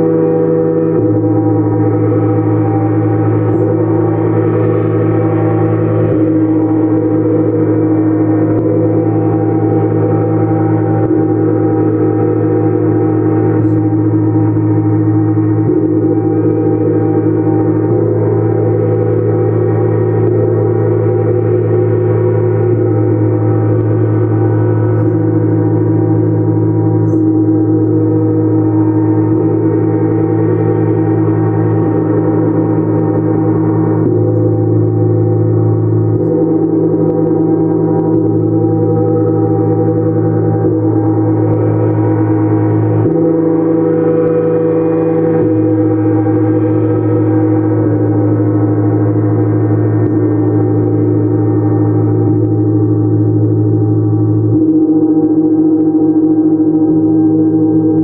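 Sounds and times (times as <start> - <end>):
gongs ringing: 0.0 - 55.1.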